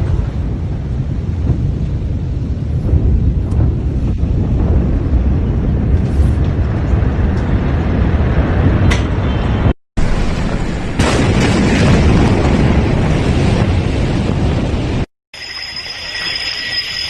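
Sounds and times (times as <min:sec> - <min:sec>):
explosion rumble: 0:00.0 - 0:15.1.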